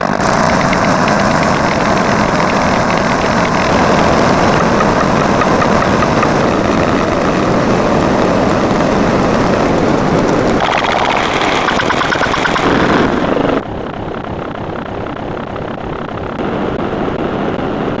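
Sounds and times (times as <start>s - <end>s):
engine-like running sound: 0.0s - 17.3s.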